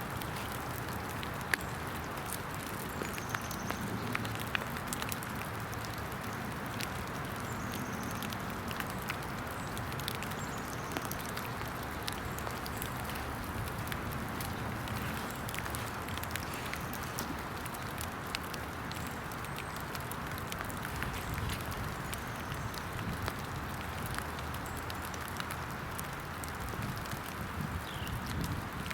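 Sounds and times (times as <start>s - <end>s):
raindrops ticking close by: 0.0s - 28.9s
steady rain hiss: 0.0s - 28.9s.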